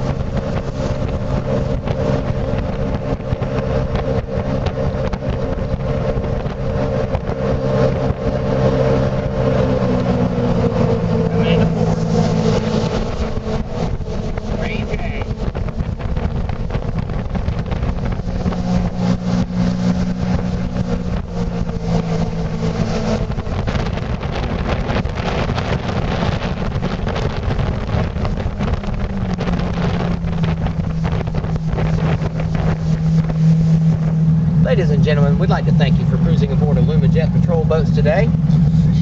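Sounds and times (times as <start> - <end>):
boat engine running: 0.0 - 39.0
wind buffeting microphone: 0.0 - 39.0.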